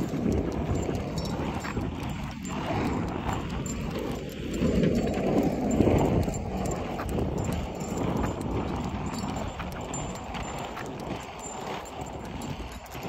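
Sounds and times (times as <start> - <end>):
faint irregular ticks: 0.0 - 13.0
wheels rumbling on pavement: 0.0 - 13.0
wind buffeting microphone: 0.0 - 13.0.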